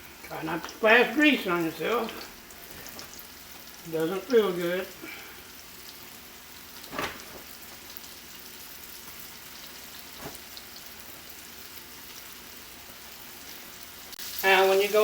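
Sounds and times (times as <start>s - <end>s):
shrimp sizzling in hot oil: 0.0s - 15.0s.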